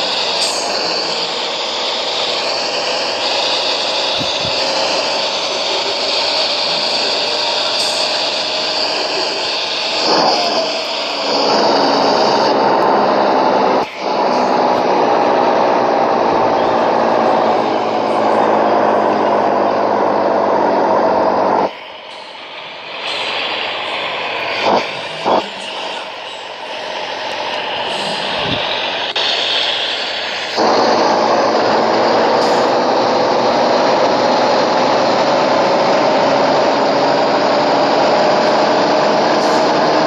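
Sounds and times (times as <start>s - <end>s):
vehicle engine running loudly: 0.0s - 40.0s.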